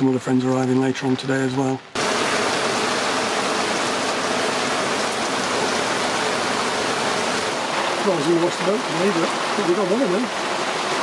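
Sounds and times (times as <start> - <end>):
heavy rain on canvas cover: 0.0 - 11.0.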